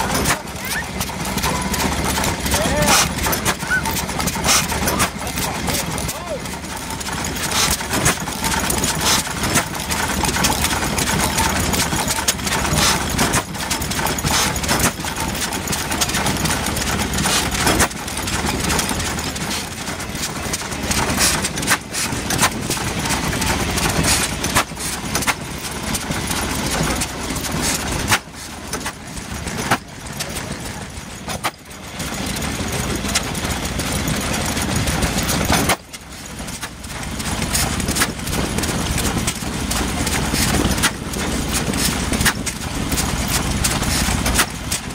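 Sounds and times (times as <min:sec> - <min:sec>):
stationary engine beating: 0:00.0 - 0:44.9.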